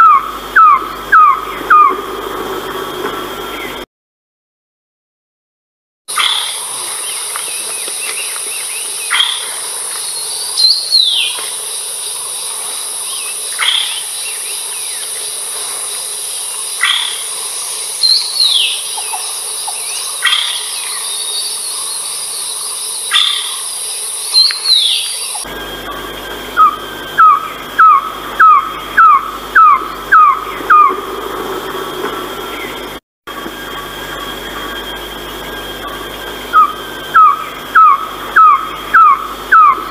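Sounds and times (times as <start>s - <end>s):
bird calling: 0.0s - 2.2s, 6.1s - 33.0s, 33.7s - 39.9s
high-pitched insect drone: 0.0s - 3.8s, 6.1s - 39.9s.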